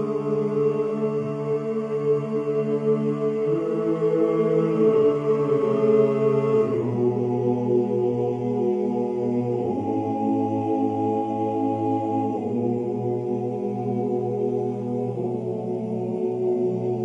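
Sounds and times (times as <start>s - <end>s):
slow choral chant: 0.0s - 17.0s.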